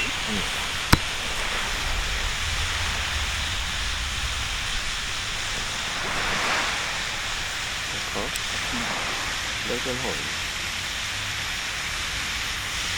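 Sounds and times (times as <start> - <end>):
sea surf rushing on shore: 0.0 - 11.6.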